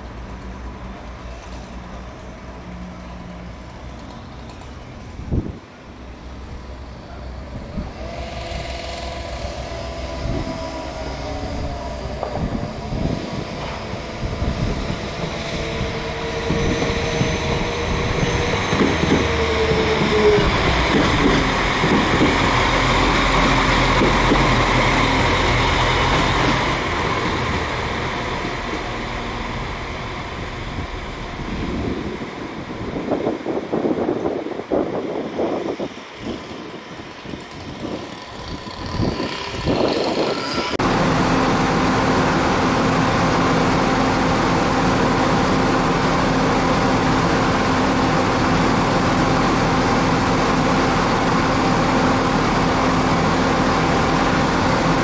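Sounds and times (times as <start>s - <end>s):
train rumble and wheel noise: 0.0s - 55.0s
train whines: 0.0s - 55.0s.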